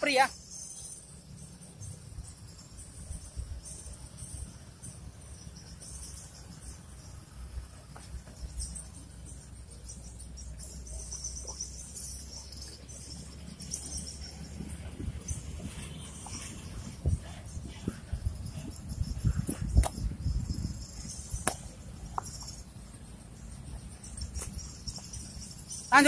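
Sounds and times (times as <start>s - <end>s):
insects chirping in pulsing trill: 0.0s - 26.0s
steady low rumble: 1.0s - 26.0s.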